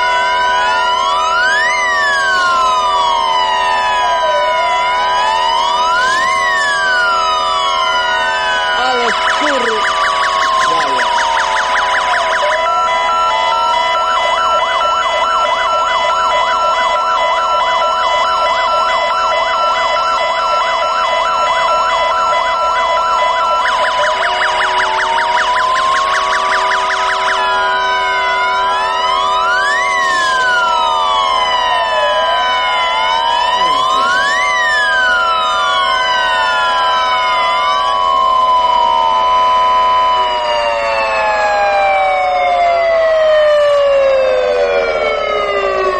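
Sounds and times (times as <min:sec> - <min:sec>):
fire engine sirens: 0:00.0 - 0:45.9.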